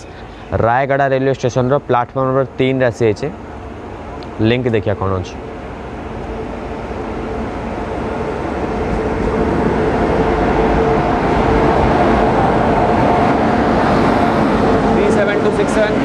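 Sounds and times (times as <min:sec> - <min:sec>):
passenger train rumbling: 0:00.0 - 0:16.0
steady hum: 0:01.2 - 0:16.0.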